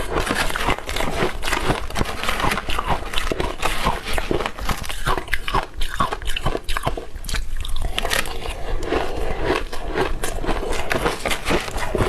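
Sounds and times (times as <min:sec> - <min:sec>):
chewing crunchy ice: 0:00.0 - 0:12.0.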